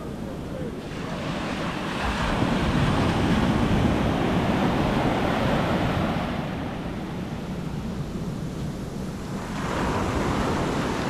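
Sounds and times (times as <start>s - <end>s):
surf washing over sand: 0.0s - 11.0s.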